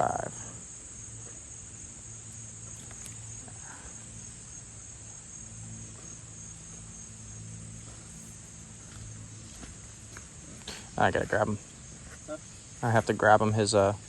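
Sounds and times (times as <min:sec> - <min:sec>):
faint low hum: 0:00.0 - 0:14.0
insects chorus: 0:00.0 - 0:14.0.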